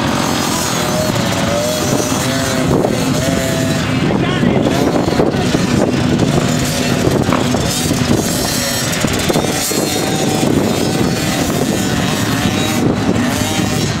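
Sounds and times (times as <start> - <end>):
small motocross bike engines revving: 0.0 - 14.0.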